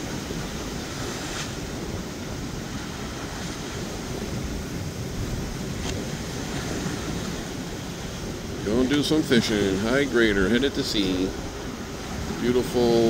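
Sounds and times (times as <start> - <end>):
waves washing and splashing: 0.0 - 13.0
wind buffeting microphone: 0.0 - 13.0.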